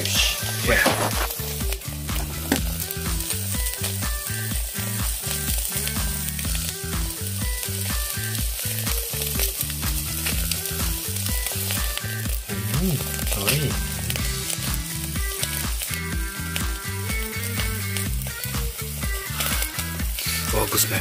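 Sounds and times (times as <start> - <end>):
background music with bass line: 0.0 - 21.0
fish sizzling on grill: 0.0 - 21.0.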